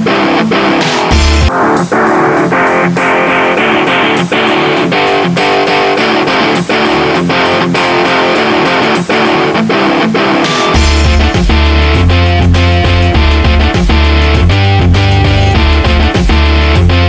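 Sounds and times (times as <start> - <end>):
strummed guitar music with beat: 0.0 - 17.0.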